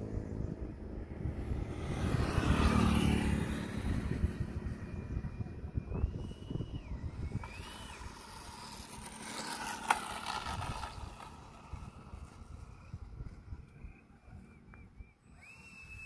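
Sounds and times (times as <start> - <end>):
electric fan whining: 0.0 - 16.0.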